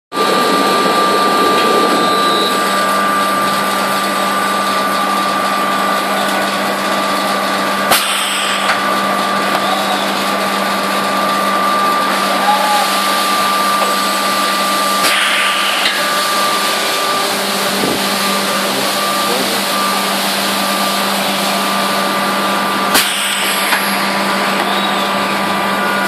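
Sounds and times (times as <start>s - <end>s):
steady high machine tone: 0.1s - 26.0s
sharp machine clack: 0.2s - 12.2s, 13.3s - 22.0s, 22.8s - 26.0s
machinery low hum: 0.2s - 26.0s.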